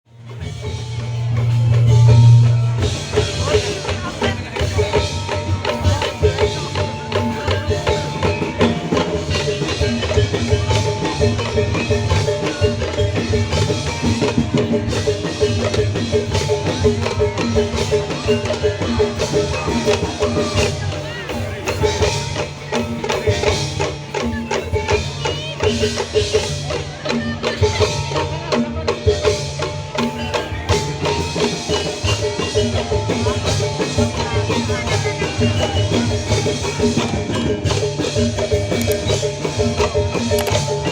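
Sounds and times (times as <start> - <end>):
slit drums and drums rhythm: 0.0 - 40.9
pitched tones: 0.1 - 26.3, 26.9 - 40.9.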